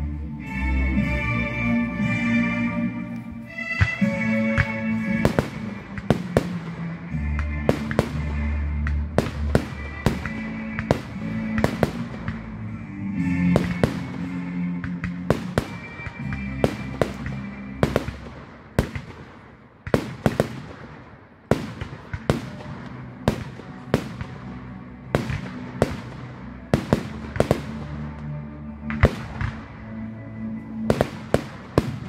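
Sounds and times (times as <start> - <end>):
music playing: 0.0 - 32.0
fireworks bursting: 1.9 - 30.0, 30.8 - 32.0.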